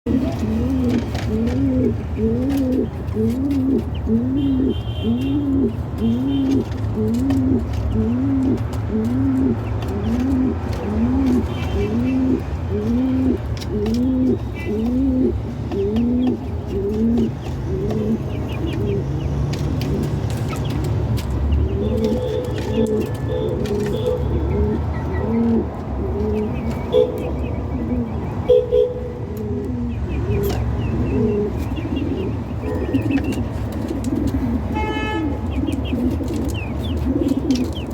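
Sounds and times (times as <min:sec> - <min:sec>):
pigeons cooing: 0:00.1 - 0:20.8, 0:21.6 - 0:37.9.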